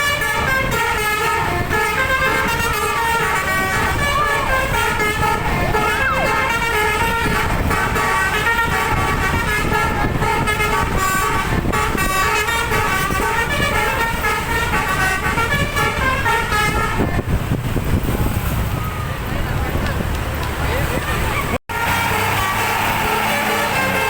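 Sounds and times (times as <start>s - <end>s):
air horn melody: 0.0s - 17.2s, 21.7s - 24.0s
engine and road rumble: 0.0s - 24.0s.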